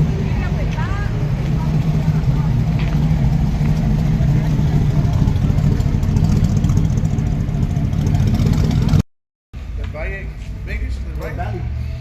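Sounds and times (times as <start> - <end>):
vehicle engine rumbling: 0.0 - 9.0, 9.6 - 12.0.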